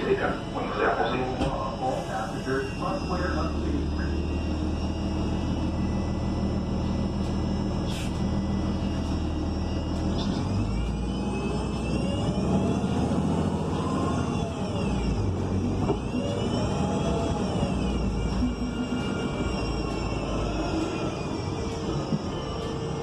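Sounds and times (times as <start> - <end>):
bus engine running: 0.0 - 23.0
transmission whine: 0.0 - 23.0.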